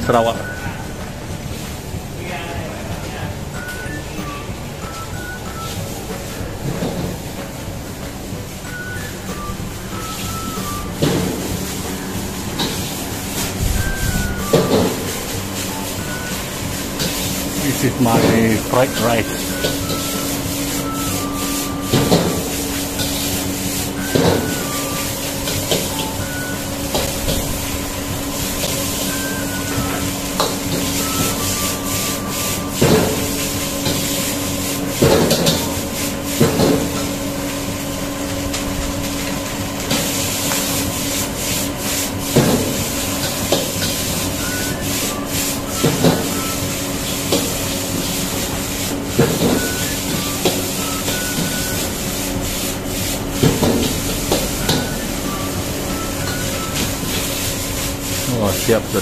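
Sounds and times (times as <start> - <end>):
rice sizzling: 0.0 - 59.0
burner hiss: 4.7 - 59.0.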